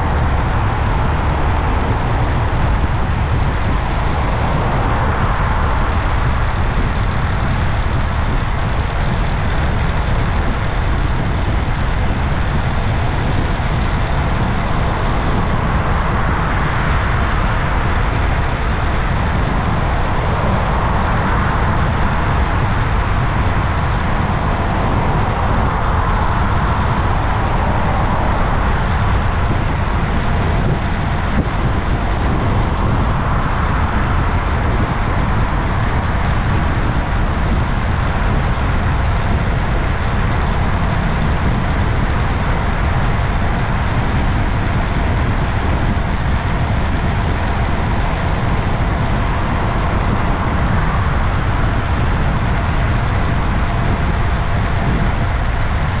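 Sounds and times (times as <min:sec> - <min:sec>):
road and traffic noise: 0:00.0 - 0:56.0
wind on microphone: 0:00.0 - 0:56.0.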